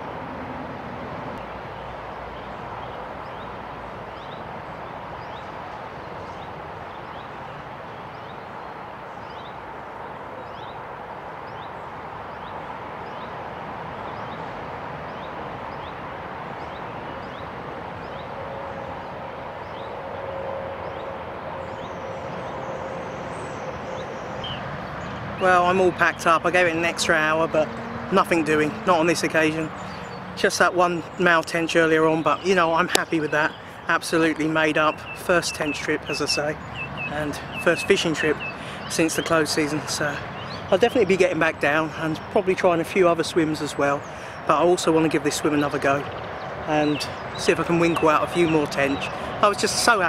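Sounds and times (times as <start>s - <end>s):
road traffic hiss: 0.0s - 50.0s.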